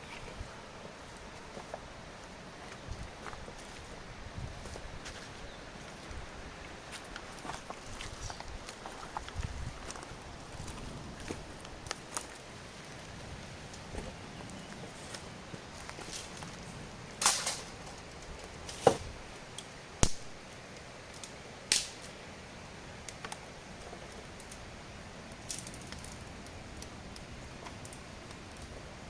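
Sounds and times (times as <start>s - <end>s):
low background hiss: 0.0s - 29.0s.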